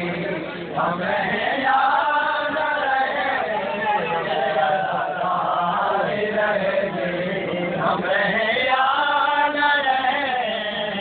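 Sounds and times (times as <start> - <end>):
voices chanting a lament: 0.0 - 11.0.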